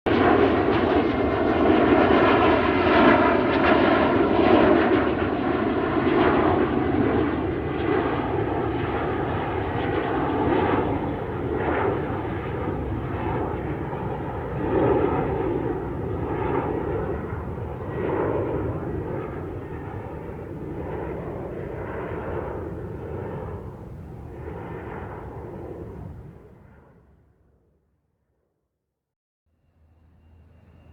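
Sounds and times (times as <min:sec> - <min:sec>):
airliner engines running: 0:00.1 - 0:26.9, 0:29.6 - 0:30.9.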